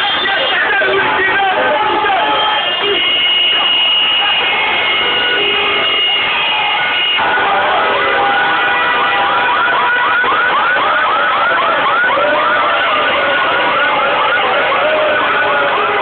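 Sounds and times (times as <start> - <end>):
car horns: 0.0 - 16.0
crowd noise: 0.0 - 16.0
whooping electronic siren tone: 2.5 - 16.0.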